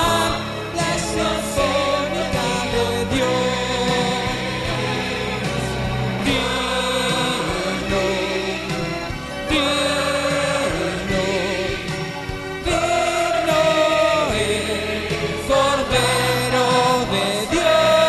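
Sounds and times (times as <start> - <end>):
choir singing: 0.0 - 18.0
instrumental accompaniment: 0.0 - 18.0.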